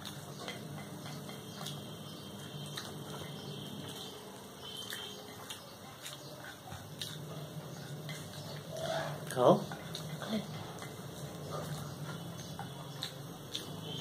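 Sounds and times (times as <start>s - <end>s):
fingers squishing food: 0.0s - 14.0s.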